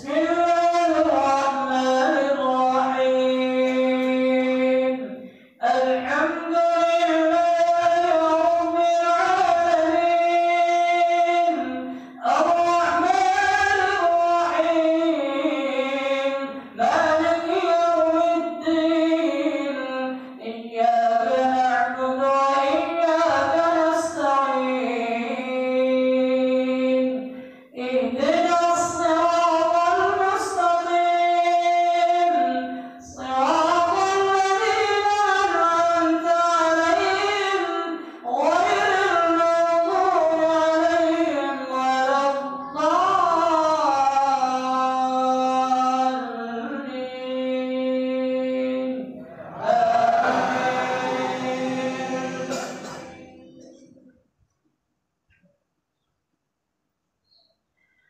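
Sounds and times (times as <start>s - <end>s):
man chanting into microphone: 0.0s - 53.8s.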